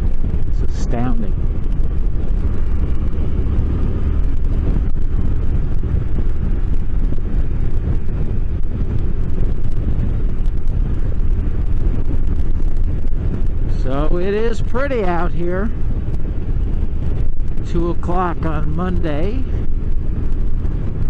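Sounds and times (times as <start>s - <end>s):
motorcycle engine running: 0.0s - 21.0s
wind noise on microphone: 0.0s - 21.0s.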